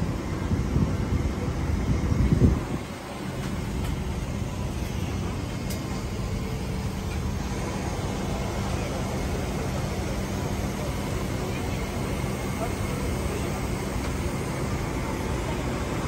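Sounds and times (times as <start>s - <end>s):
airliner cabin hum: 0.0s - 16.0s.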